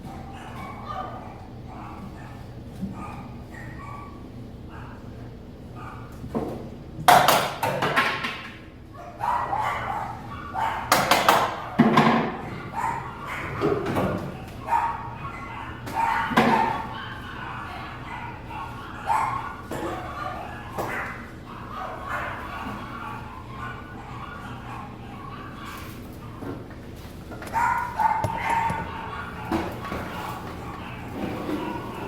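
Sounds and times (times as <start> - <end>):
dogs barking: 0.0 - 32.0.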